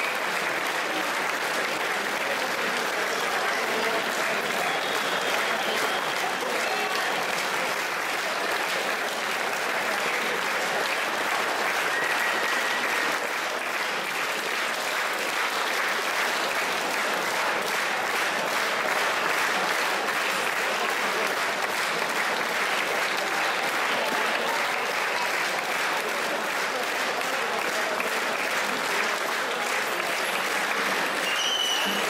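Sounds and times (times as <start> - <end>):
crowd applauding: 0.0 - 32.0.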